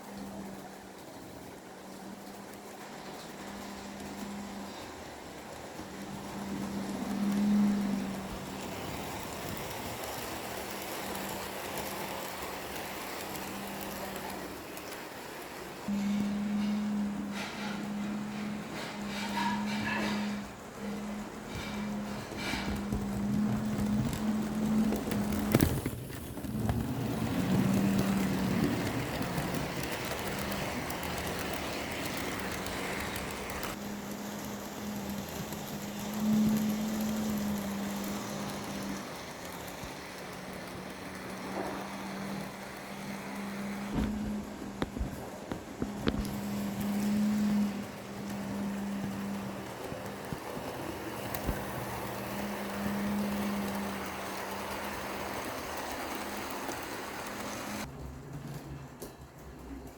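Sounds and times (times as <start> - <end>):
model train wheels rolling on rail: 0.0 - 59.9
motor hum: 1.9 - 14.9, 15.5 - 58.2.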